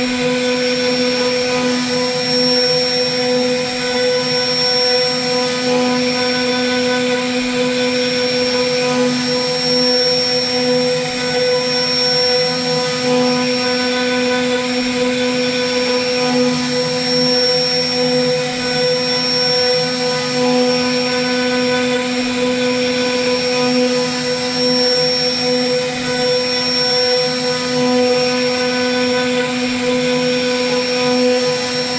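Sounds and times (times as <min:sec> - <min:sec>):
router spindle whining: 0:00.0 - 0:31.9.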